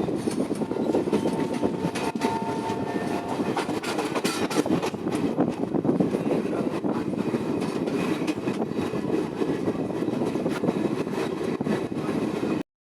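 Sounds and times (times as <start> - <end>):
train wheels rumbling on rails: 0.0 - 12.6.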